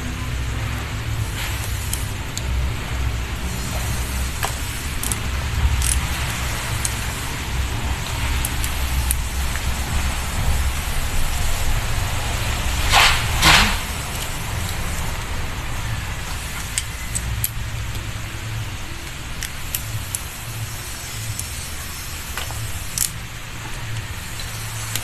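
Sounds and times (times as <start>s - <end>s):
metal parts clicking and tapping: 0.0s - 11.4s, 12.9s - 25.0s
low workshop rumble: 0.0s - 25.0s.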